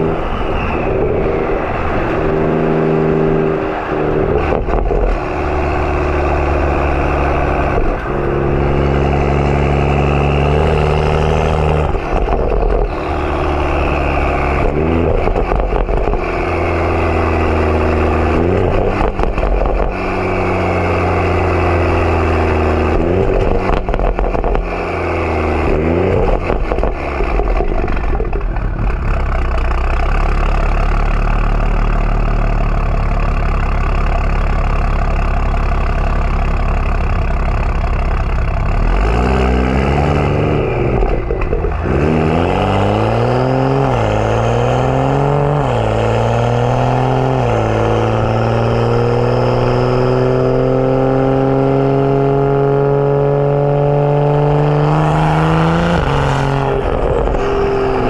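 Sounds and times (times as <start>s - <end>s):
car exhaust shifting through gears: 0.0s - 58.0s.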